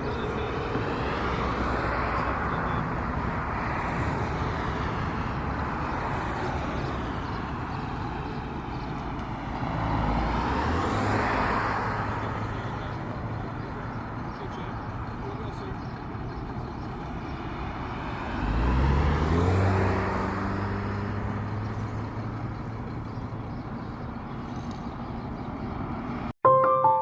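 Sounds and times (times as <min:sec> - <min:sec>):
vehicles passing on road: 0:00.0 - 0:27.0.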